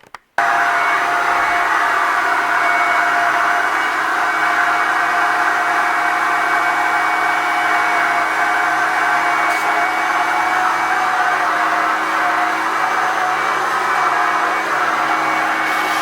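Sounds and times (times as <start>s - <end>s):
vacuum cleaner motor whine: 0.4s - 16.0s.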